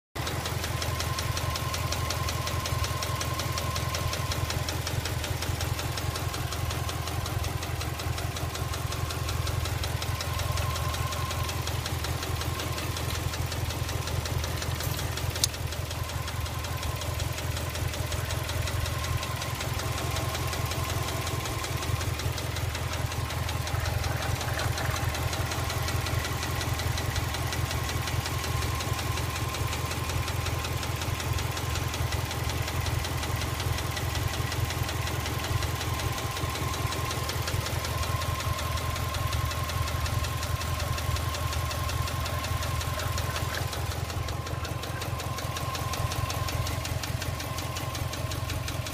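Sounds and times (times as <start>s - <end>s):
engine running with knock: 0.2s - 48.9s.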